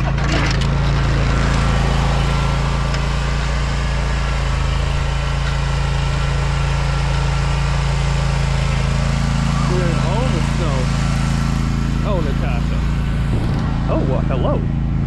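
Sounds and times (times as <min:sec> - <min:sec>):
mower engine running: 0:00.0 - 0:15.0.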